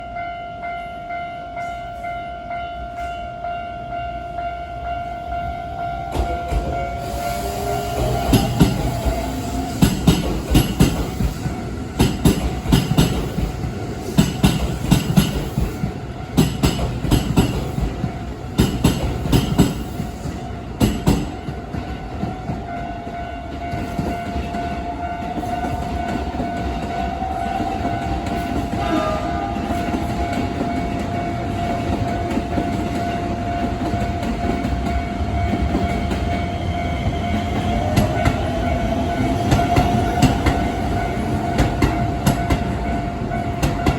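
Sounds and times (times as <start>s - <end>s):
level-crossing warning bell: 0.0s - 43.9s
electric train wheel clicks and rumble: 6.0s - 43.9s.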